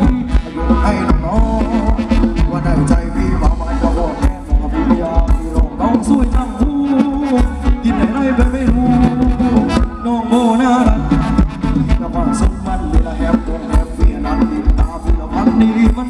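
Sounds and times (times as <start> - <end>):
live dance band playing: 0.0 - 16.0.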